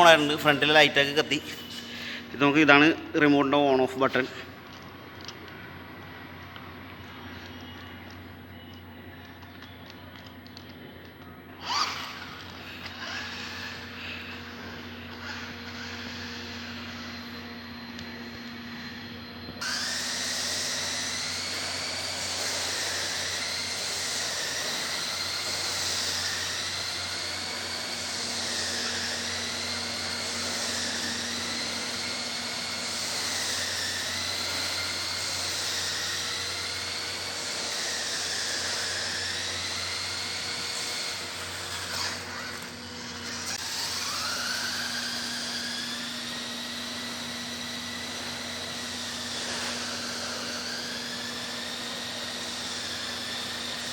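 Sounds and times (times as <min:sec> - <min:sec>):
toy truck electric motor whining: 0:00.0 - 0:53.9.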